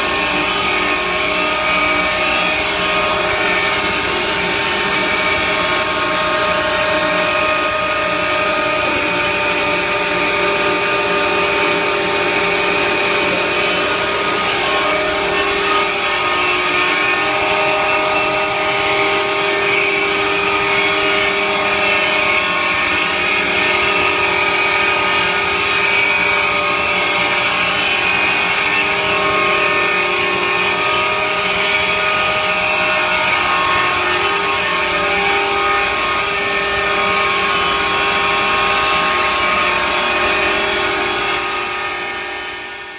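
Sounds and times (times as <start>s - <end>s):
router spindle whine: 0.0s - 42.9s.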